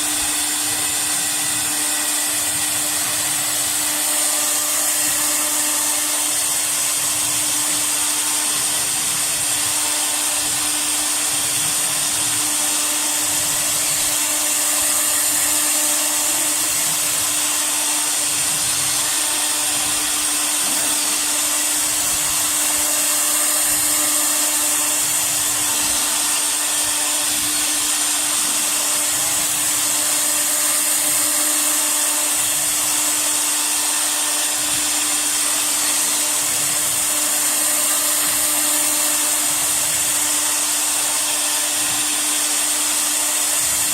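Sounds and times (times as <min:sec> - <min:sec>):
router spindle high whine: 0:00.0 - 0:43.9.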